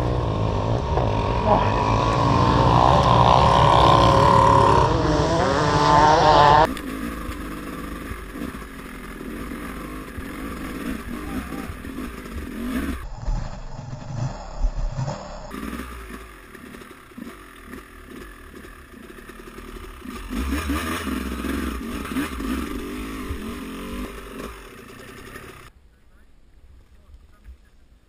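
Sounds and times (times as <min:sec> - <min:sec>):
dirt bike engine revving: 0:00.0 - 0:25.7.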